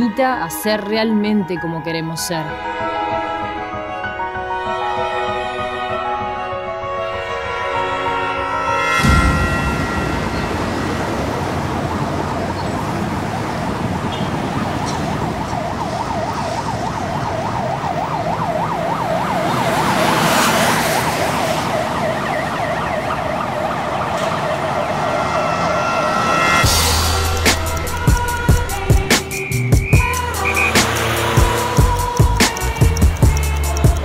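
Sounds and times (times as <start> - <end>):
city street traffic: 0.0 - 34.0
ambulance siren warbling: 4.0 - 33.0.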